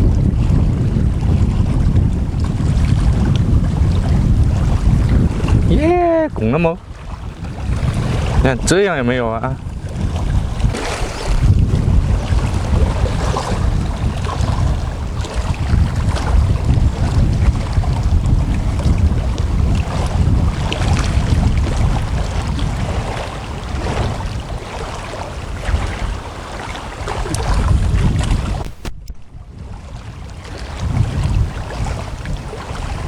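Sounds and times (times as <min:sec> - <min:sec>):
choppy waves on shallow water: 0:00.0 - 0:33.0
wind buffeting microphone: 0:00.0 - 0:33.0.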